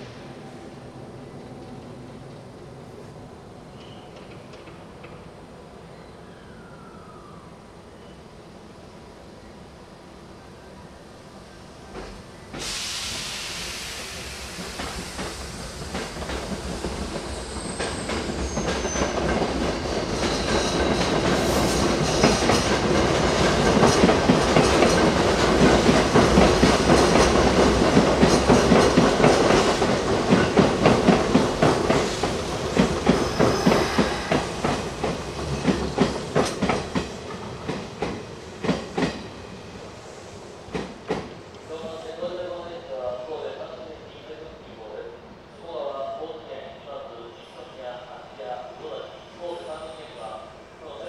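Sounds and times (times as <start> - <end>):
electric train passing: 0.0 - 42.7.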